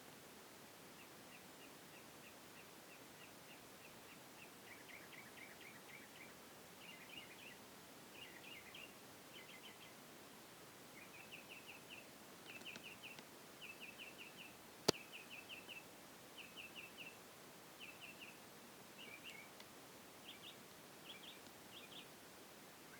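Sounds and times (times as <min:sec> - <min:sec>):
faint bird singing: 0:00.9 - 0:22.9.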